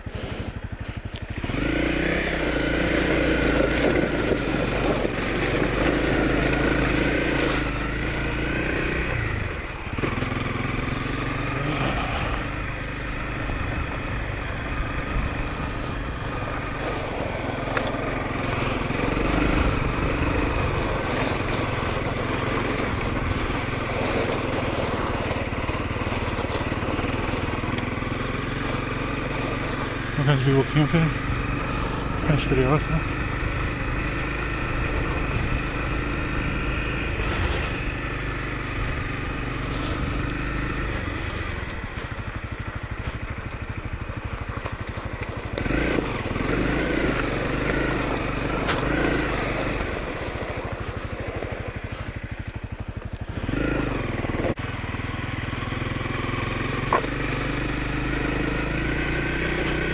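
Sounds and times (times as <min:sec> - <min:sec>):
gravel crunching under tyres: 0:00.0 - 0:59.9
motorcycle engine running: 0:00.0 - 0:59.9.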